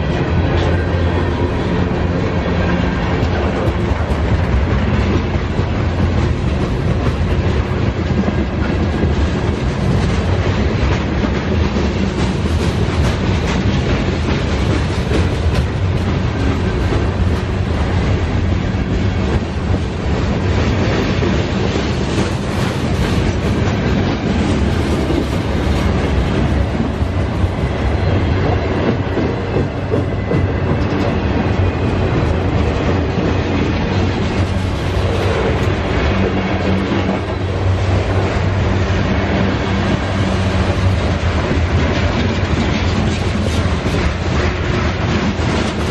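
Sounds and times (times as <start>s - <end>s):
diesel locomotive hum: 0.0s - 45.9s
freight train wheels clattering: 0.0s - 45.9s.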